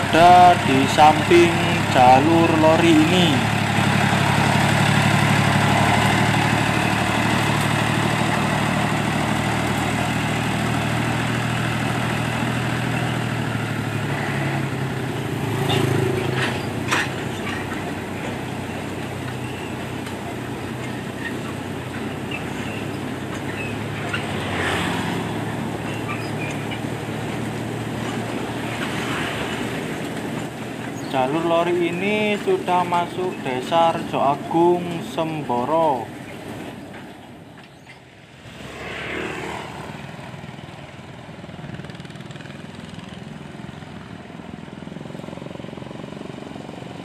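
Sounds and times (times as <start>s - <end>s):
diesel locomotive engine running: 0.0s - 47.0s.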